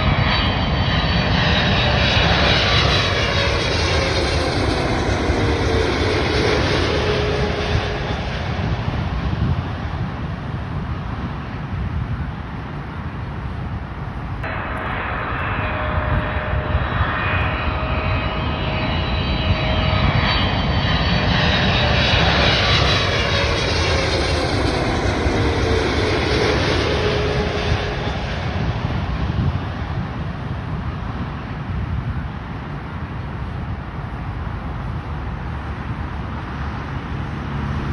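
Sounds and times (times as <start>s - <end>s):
jet airliner passing by: 0.0s - 37.9s.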